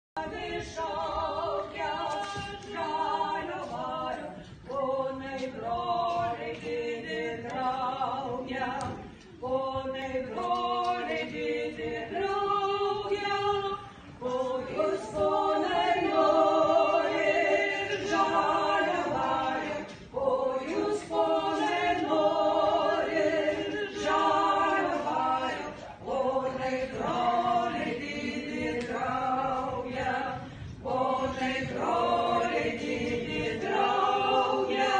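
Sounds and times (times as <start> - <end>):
women singing folk song in chorus: 0.2 - 34.9.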